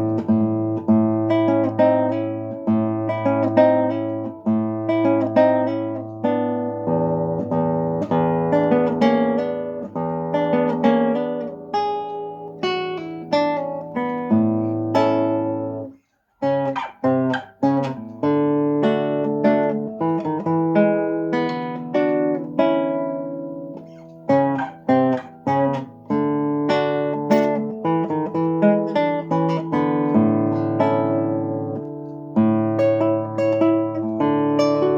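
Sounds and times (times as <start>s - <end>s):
fingerpicked acoustic guitar: 0.0s - 34.9s.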